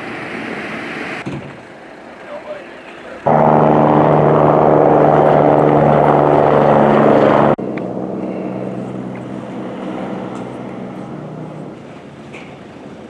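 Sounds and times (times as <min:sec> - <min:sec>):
loud steady engine noise: 0:01.2 - 0:13.0
quiet engine hum: 0:01.4 - 0:13.0.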